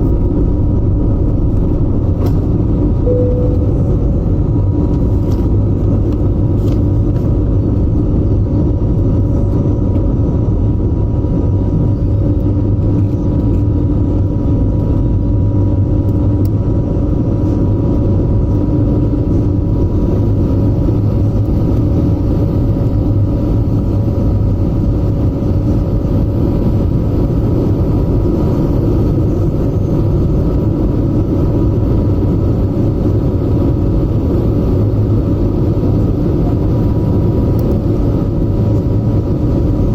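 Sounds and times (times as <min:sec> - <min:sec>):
jet engines rumbling in cabin: 0:00.0 - 0:39.9
steady hums: 0:00.0 - 0:39.9.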